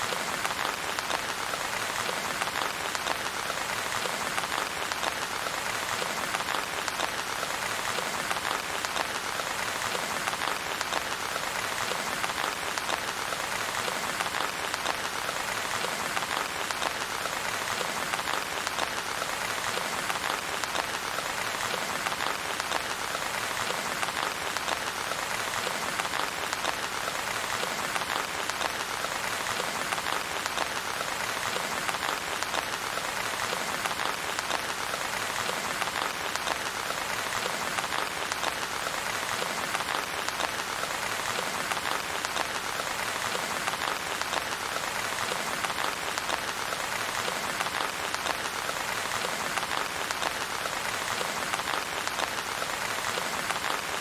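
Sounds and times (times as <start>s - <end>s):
steady dense rainfall: 0.0s - 54.0s.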